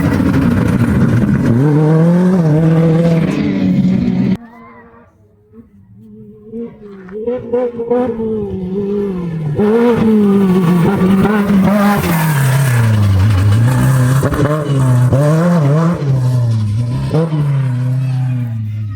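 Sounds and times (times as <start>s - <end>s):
race vehicle engine revving: 0.0s - 4.4s, 6.0s - 18.9s.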